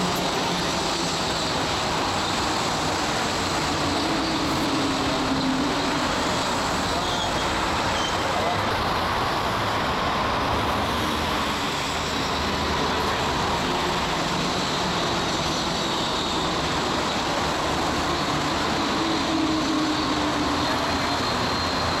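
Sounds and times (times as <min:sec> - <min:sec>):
metro train rolling rush: 0:00.0 - 0:22.0
traction motors whining: 0:00.0 - 0:22.0.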